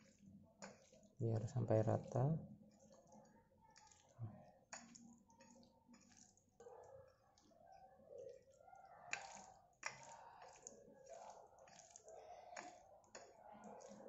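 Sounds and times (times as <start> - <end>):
wet squelching of raw meat: 0.0 - 14.0.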